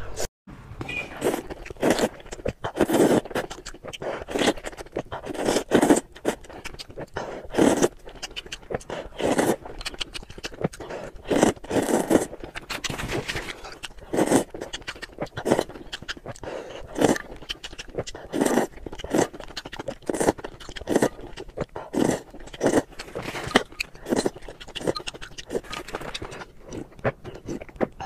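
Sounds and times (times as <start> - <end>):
person slurping noodles: 1.1 - 28.0.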